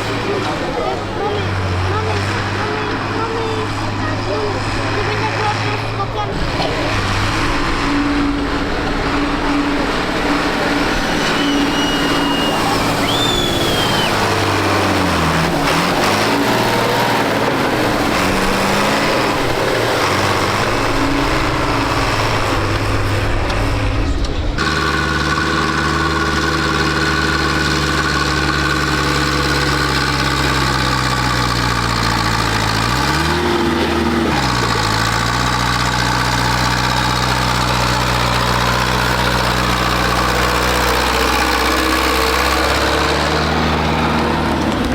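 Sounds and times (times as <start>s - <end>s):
tractor engine idling: 0.0s - 44.9s
tractor engines running: 0.0s - 44.9s.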